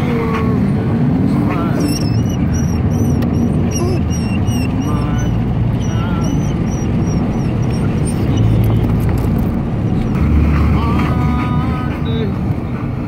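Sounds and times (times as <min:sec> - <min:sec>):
road rumble: 0:00.0 - 0:13.0
wind buffeting through car window: 0:00.0 - 0:13.0.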